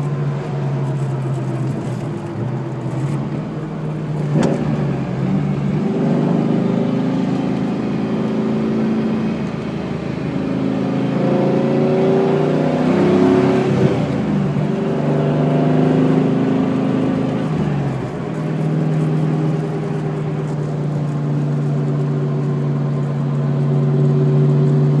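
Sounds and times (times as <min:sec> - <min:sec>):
car drivetrain whine: 0:00.0 - 0:25.0.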